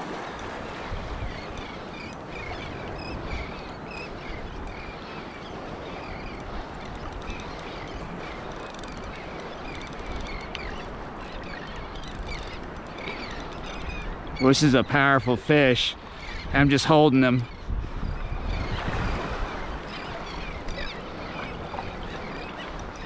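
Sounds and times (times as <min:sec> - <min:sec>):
surf washing: 0:00.0 - 0:23.0
wind: 0:00.0 - 0:23.0
seabird calls: 0:00.1 - 0:23.0.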